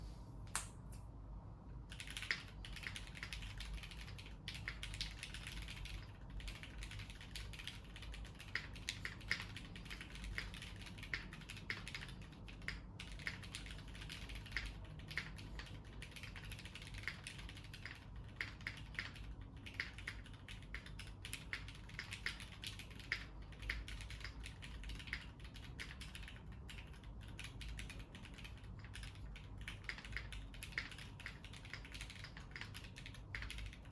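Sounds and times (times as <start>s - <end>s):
mechanical keyboard typing: 1.9s - 33.9s.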